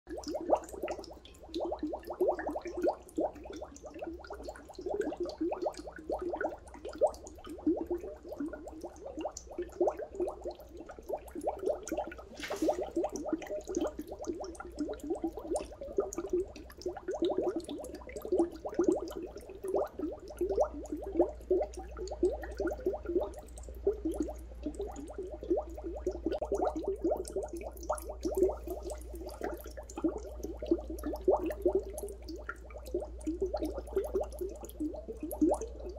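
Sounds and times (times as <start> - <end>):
dry ice bubbling in water: 0.1 - 35.9.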